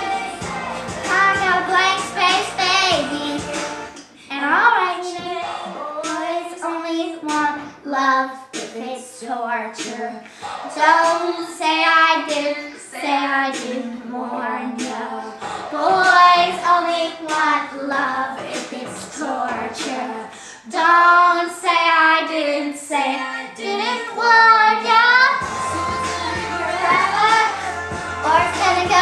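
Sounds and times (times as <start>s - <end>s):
girl singing a pop song: 0.0s - 29.0s.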